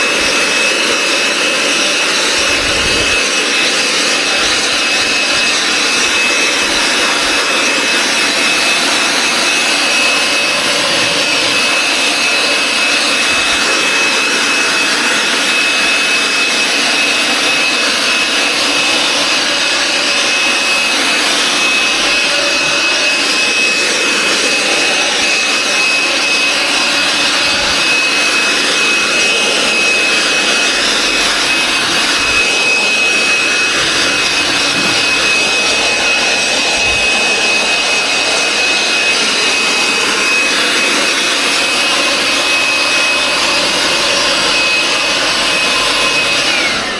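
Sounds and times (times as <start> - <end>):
vacuum cleaner sucking water: 0.0 - 46.9.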